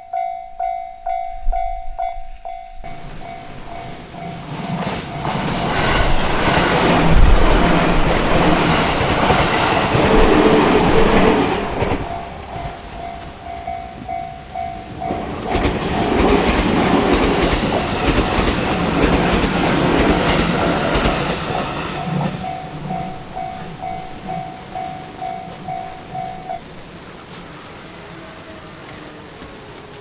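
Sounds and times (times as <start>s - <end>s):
crossing warning bell ringing: 0.0s - 27.2s
train wheel and rail clatter: 0.0s - 30.0s.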